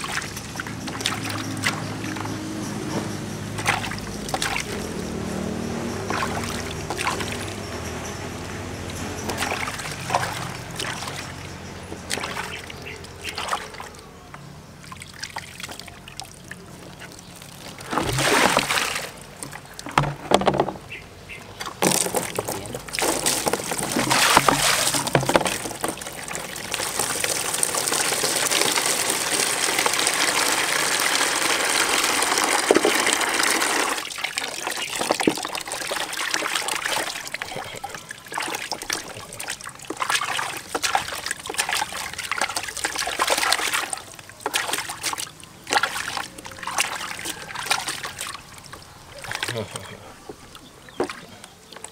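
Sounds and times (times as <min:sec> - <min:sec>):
hose water pouring into basin: 0:00.0 - 0:02.4, 0:03.5 - 0:05.4, 0:06.0 - 0:14.1, 0:14.9 - 0:20.6, 0:21.8 - 0:50.0
water splashing in a plastic basin: 0:00.0 - 0:51.9.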